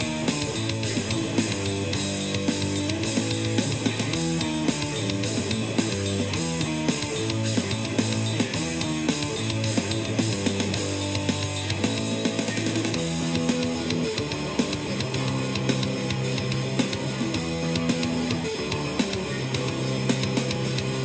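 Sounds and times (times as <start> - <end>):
electric guitar through amplifier: 0.0 - 21.0.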